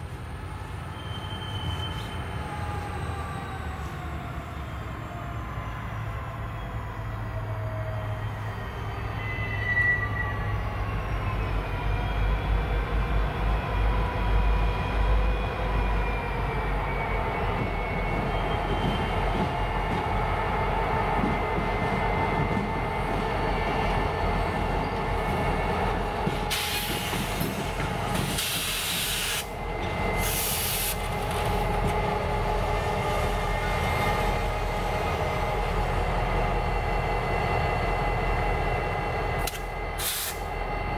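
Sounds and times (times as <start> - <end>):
diesel locomotive engine drone: 0.0 - 40.9.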